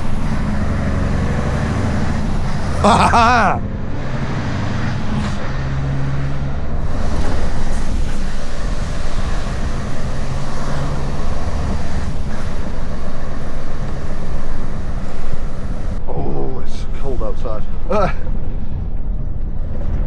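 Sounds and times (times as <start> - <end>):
diesel lorry engine running: 0.0 - 16.1.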